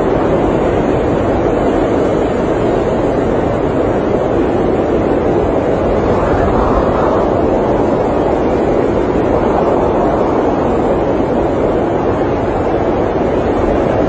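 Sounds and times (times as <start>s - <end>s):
muffled blizzard wind rushing: 0.0s - 14.0s.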